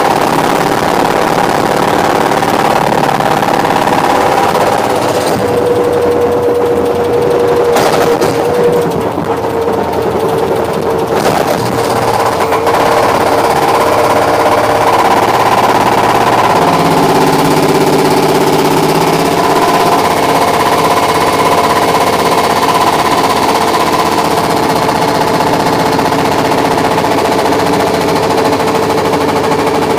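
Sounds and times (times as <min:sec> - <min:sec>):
hydraulic breaker hammering concrete: 0:00.0 - 0:29.9
loader engine running: 0:00.0 - 0:29.9.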